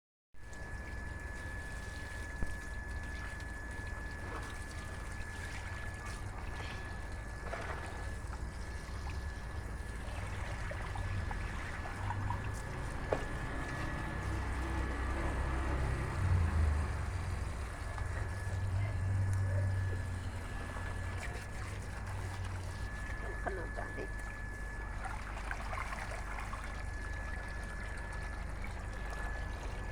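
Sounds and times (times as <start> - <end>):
faint high whine: 0.4 - 29.9
water trickling: 0.4 - 29.9.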